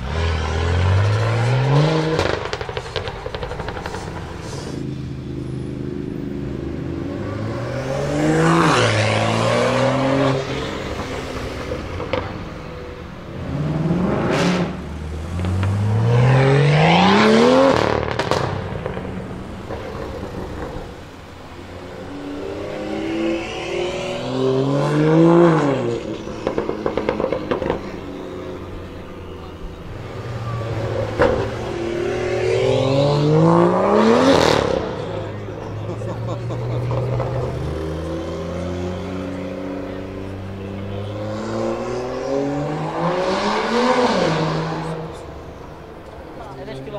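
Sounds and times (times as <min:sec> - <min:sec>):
car engine accelerating hard: 0:00.0 - 0:12.4, 0:13.3 - 0:46.9.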